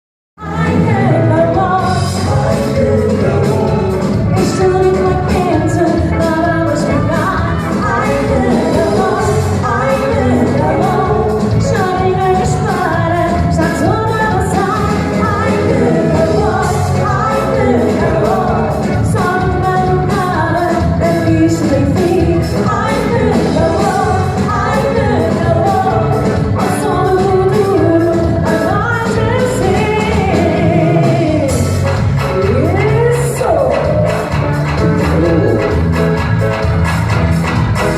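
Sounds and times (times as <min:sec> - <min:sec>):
lead vocalist singing: 0:00.4 - 0:35.9
band playing pop music: 0:00.4 - 0:37.9.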